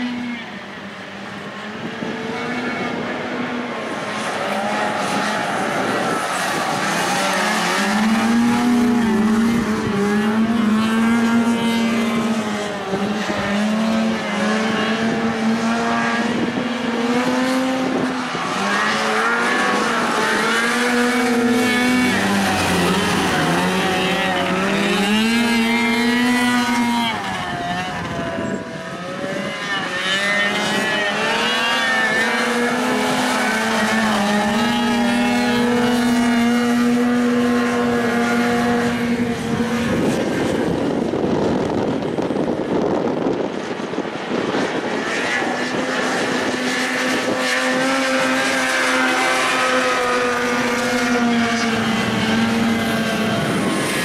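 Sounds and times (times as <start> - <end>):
racing atv engines revving: 0.0 - 54.0.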